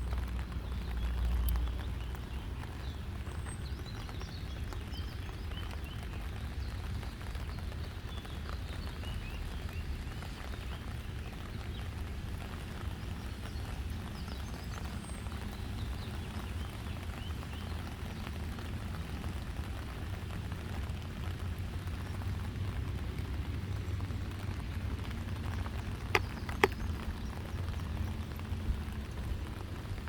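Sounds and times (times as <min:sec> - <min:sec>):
rain hiss: 0:00.0 - 0:30.0.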